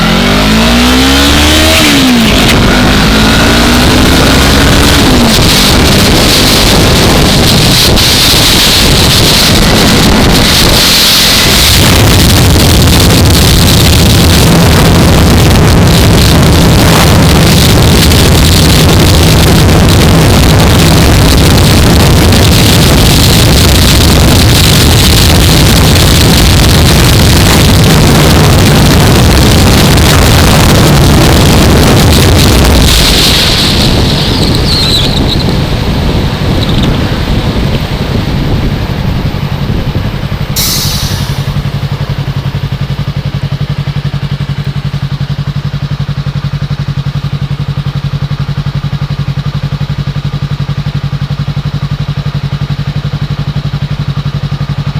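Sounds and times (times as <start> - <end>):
wind noise on microphone: 0.0 - 45.0
motorcycle engine droning: 0.0 - 54.9.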